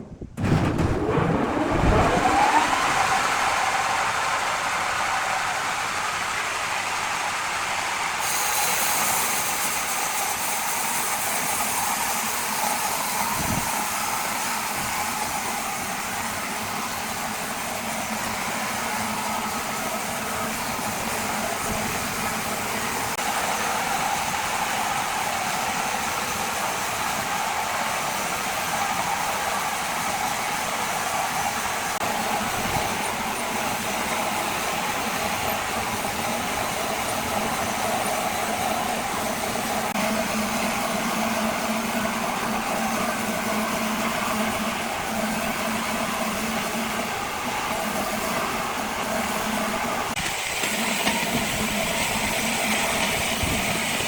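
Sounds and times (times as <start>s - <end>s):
large machine droning: 0.0s - 54.0s.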